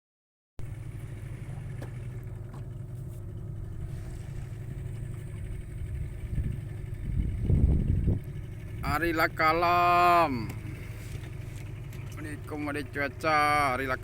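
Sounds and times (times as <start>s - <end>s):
boat engine droning: 0.6s - 14.0s.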